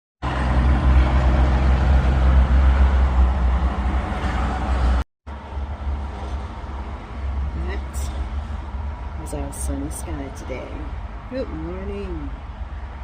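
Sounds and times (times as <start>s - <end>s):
vehicle rumble: 0.2s - 13.0s.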